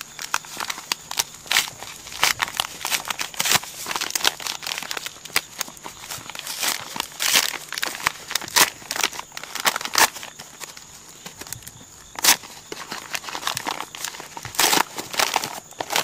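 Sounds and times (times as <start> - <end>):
paper bag crinkling: 0.0 - 16.0.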